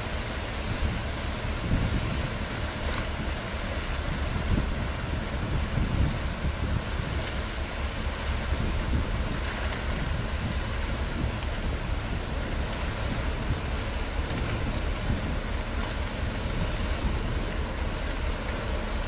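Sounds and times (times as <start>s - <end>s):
water rushing: 0.0s - 19.0s
wind buffeting microphone: 0.0s - 19.0s.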